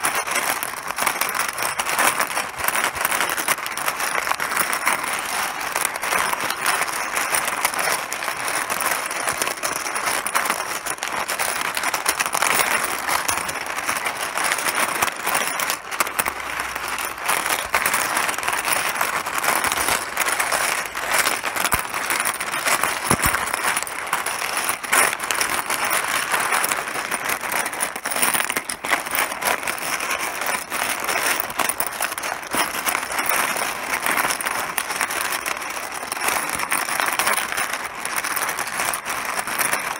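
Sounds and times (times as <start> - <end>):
mahjong pieces clattering: 0.0 - 39.9.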